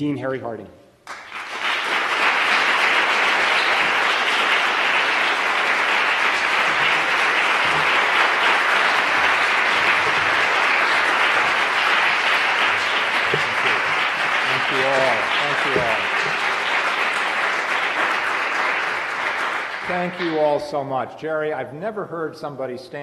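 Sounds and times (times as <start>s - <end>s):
audience applauding: 1.1s - 20.9s.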